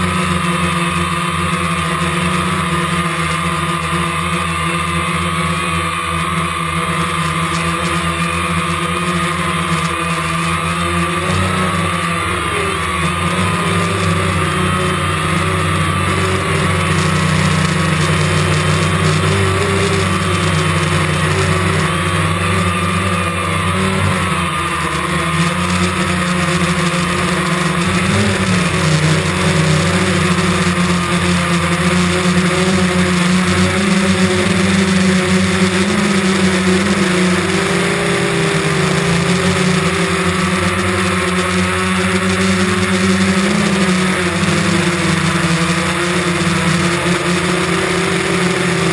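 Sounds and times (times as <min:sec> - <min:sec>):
drone motors humming: 0:00.0 - 0:48.9.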